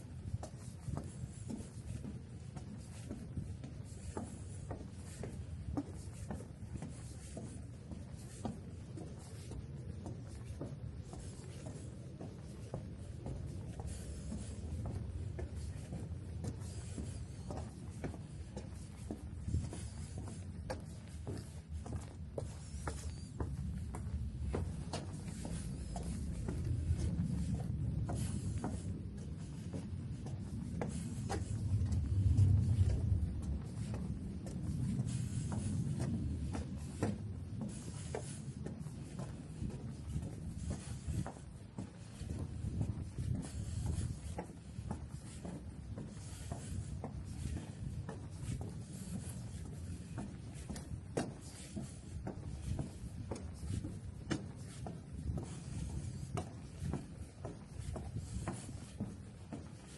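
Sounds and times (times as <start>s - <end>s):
footsteps walking: 0.0s - 59.9s
steady low rumble: 0.0s - 59.9s.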